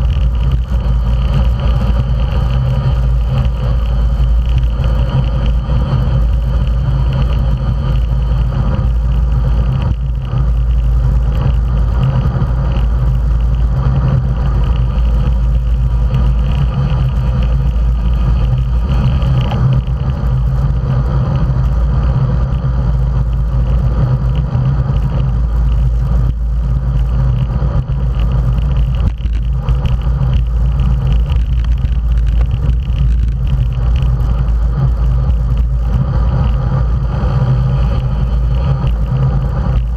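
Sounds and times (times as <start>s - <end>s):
tyres humming on asphalt: 0.0s - 39.9s
wind buffeting microphone: 0.0s - 39.9s.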